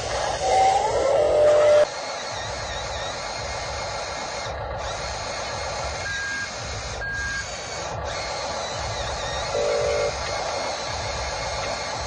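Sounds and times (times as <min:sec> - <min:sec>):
small electric motors whirring: 0:00.0 - 0:12.0.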